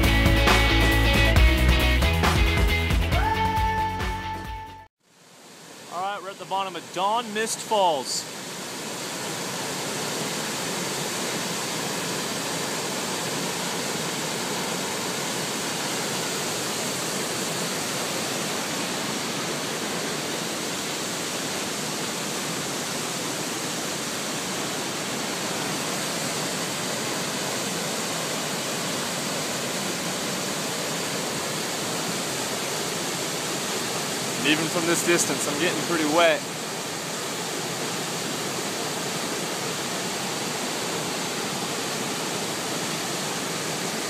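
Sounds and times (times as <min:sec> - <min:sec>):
waterfall rushing onto boulders: 0:05.2 - 0:44.0.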